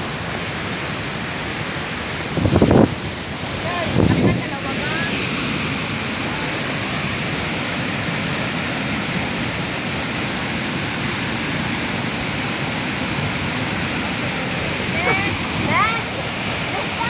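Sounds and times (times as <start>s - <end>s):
river and waterfall rushing: 0.0s - 17.0s.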